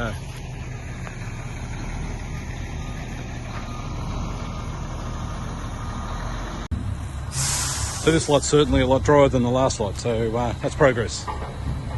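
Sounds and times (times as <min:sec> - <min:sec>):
heavy vehicle engine idling: 0:00.0 - 0:11.9.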